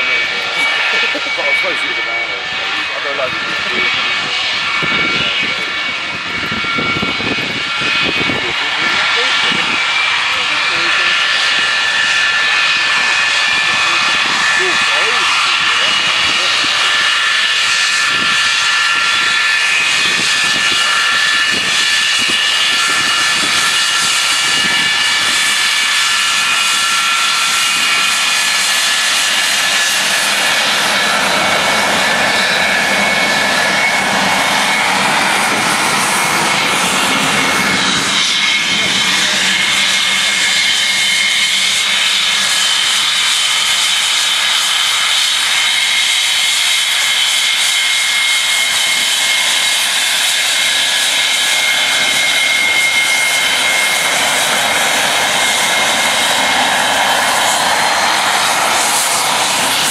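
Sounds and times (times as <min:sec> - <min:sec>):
high whistling jet whine: 0:00.0 - 0:59.9
jet engines roaring: 0:00.0 - 0:59.9.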